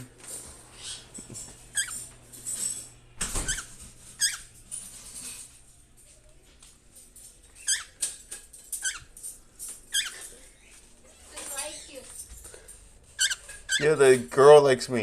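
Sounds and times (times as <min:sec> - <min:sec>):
birds chirping: 0:00.0 - 0:06.0, 0:07.2 - 0:14.4.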